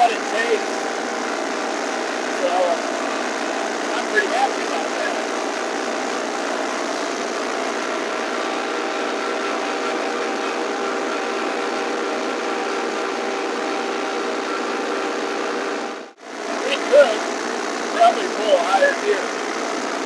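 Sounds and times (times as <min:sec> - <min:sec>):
tractor diesel engine under load: 0:00.0 - 0:14.9, 0:15.8 - 0:20.0.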